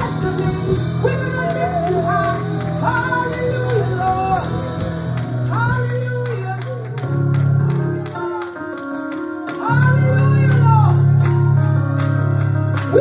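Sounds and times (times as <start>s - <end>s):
bass and guitar chords: 0.0s - 8.1s, 9.6s - 13.0s.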